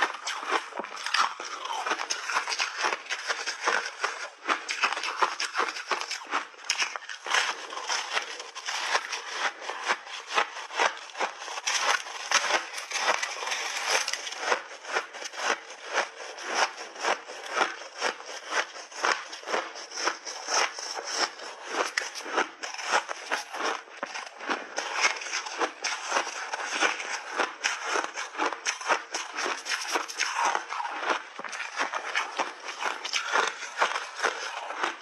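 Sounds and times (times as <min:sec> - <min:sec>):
ice being chewed crunching: 0:00.0 - 0:35.0.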